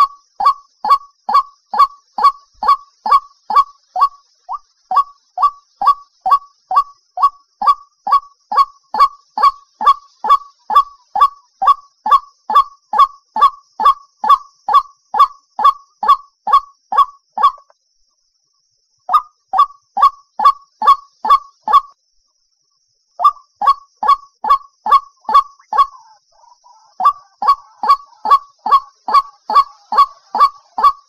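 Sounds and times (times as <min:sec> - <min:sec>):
waterhen repeated call: 0:00.0 - 0:17.7, 0:19.1 - 0:22.0, 0:23.2 - 0:31.0.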